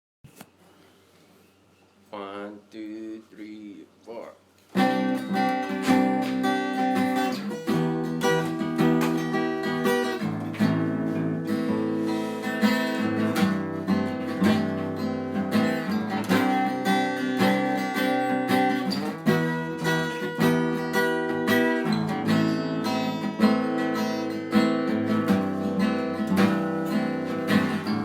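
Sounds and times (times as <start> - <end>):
acoustic guitar strumming: 4.7 - 28.0.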